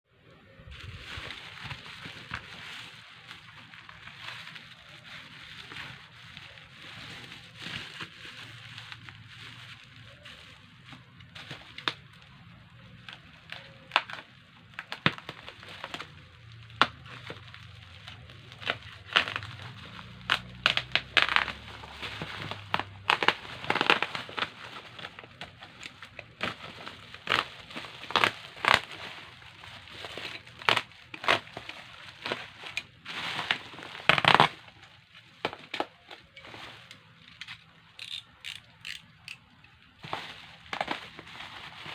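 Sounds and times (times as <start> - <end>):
packaging crackling and crinkling: 0.3 - 41.9.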